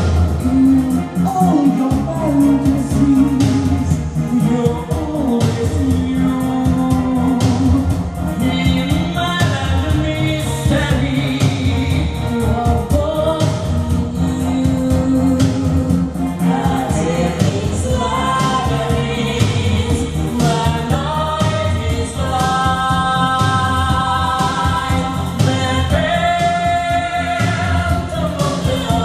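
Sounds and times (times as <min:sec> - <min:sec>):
orchestral backing: 0:00.0 - 0:29.0.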